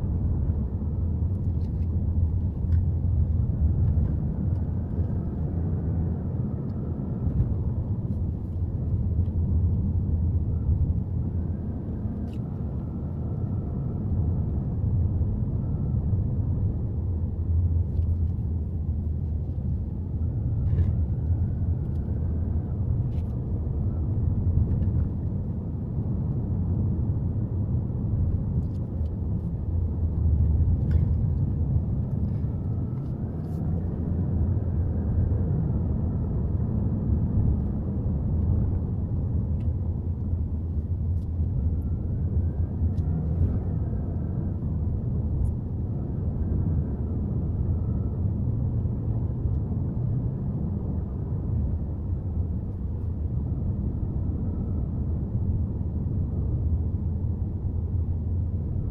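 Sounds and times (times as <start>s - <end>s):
faint engine whine: 0.0s - 58.9s.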